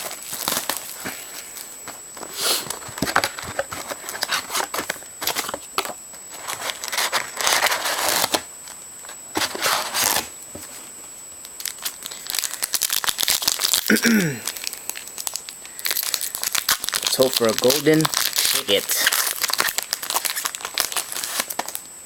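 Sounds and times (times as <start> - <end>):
plastic ripping: 0.0 - 1.7, 2.6 - 8.5, 11.5 - 21.8
plastic wrapping crinkling: 0.0 - 10.8, 11.4 - 21.9.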